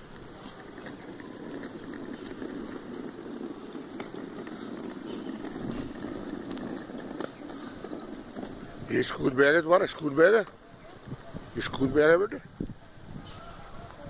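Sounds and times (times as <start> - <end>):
trolley bag wheels rolling on concrete: 0.0 - 14.0.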